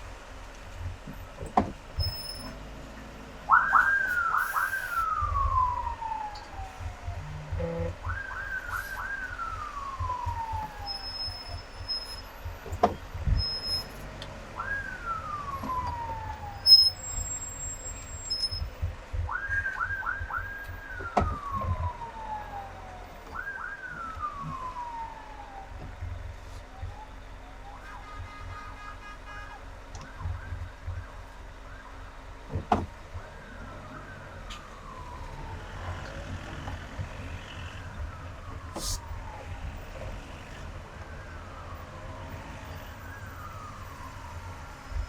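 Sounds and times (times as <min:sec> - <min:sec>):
low traffic rumble: 0:00.0 - 0:45.0
emergency vehicle siren: 0:02.0 - 0:45.0.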